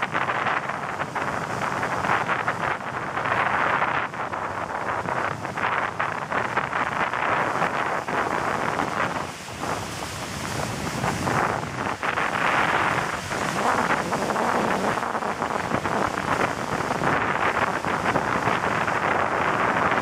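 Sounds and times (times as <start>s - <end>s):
ocean surf breaking: 0.0s - 20.0s
wind buffeting microphone: 0.0s - 20.0s.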